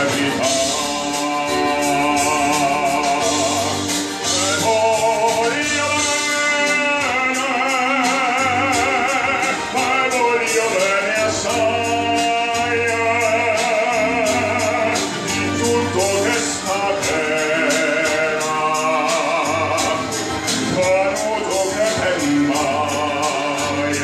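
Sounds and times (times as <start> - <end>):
instrumental accompaniment with bass: 0.0 - 24.0
male tenor singing operatically: 0.0 - 24.0.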